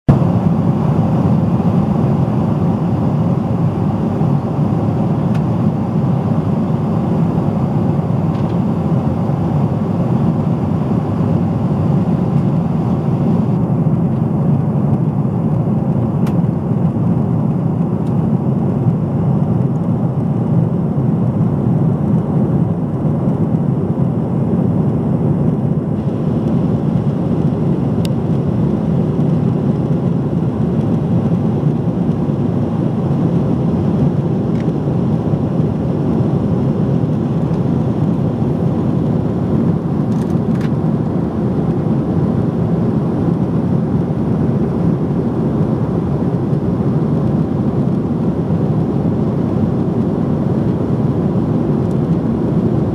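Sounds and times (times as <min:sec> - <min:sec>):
airliner cabin engine rush: 0:00.1 - 0:52.9.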